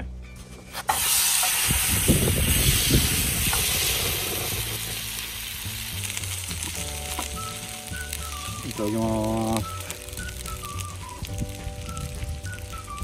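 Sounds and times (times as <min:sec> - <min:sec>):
meat sizzling in a frying pan: 0:00.9 - 0:13.0.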